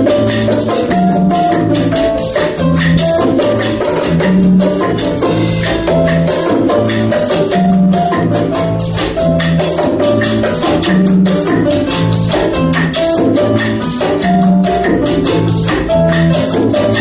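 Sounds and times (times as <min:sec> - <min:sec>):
keyboard pattern: 0:00.0 - 0:17.0
low bass notes: 0:00.0 - 0:17.0
maracas shaking: 0:00.0 - 0:17.0.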